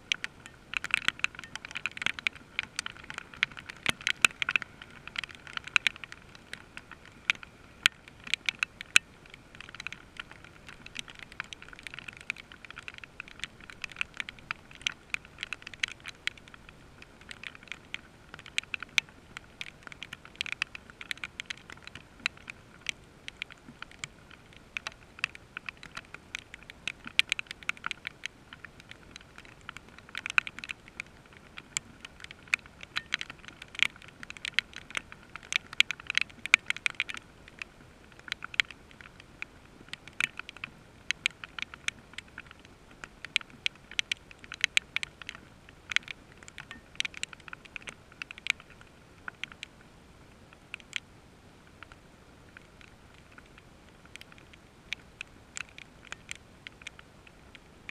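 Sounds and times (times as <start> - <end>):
hiss of rainfall: 0.0 - 57.9
raindrops tapping close: 0.0 - 57.9.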